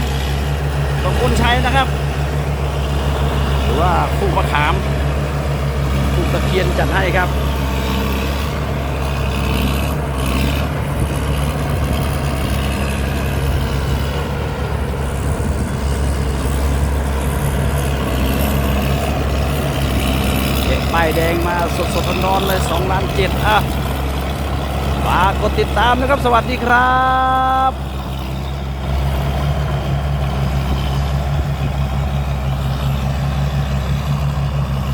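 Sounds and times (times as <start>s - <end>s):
diesel engine droning: 0.0s - 34.9s.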